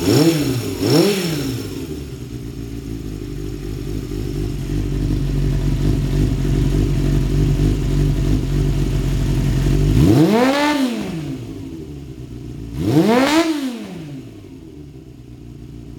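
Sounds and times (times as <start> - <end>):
motorcycle engine idling and revving: 0.0 - 15.9.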